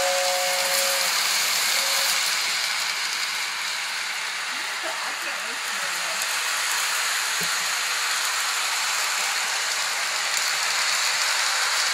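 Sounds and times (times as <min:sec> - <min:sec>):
toy train running hiss: 0:00.0 - 0:11.9.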